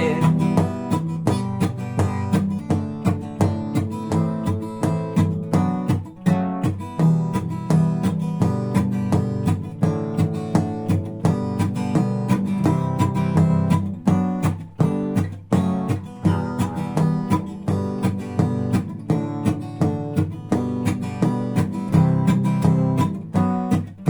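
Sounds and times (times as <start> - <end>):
acoustic guitar strumming: 0.0 - 24.0
knocks on guitar body: 0.0 - 24.0.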